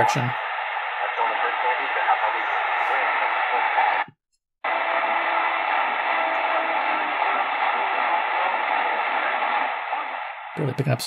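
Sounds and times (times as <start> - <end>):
radio static hiss: 0.0 - 4.1, 5.2 - 10.7.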